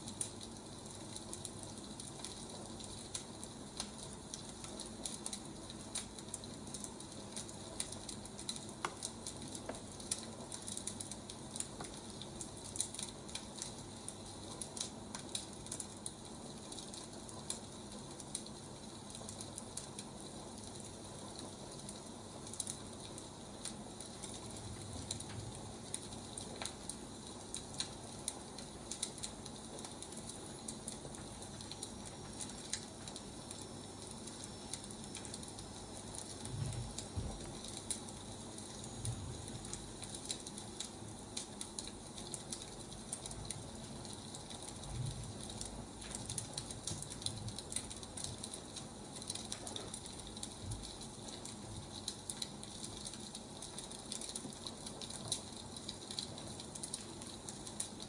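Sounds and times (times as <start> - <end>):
firewood crackling and popping: 0.0 - 58.0.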